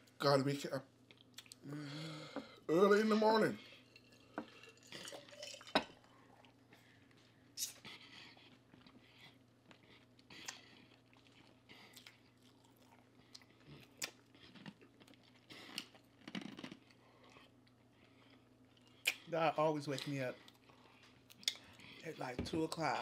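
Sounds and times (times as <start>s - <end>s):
chewing food: 1.0s - 1.6s, 3.6s - 19.3s, 19.9s - 23.0s.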